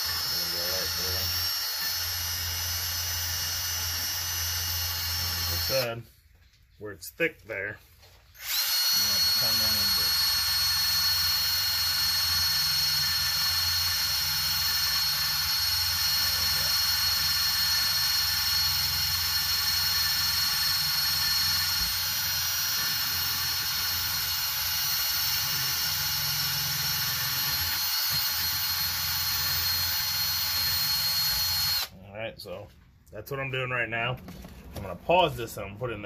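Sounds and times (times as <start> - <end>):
drill wire brush scrubbing metal: 0.0 - 6.0, 8.4 - 31.9.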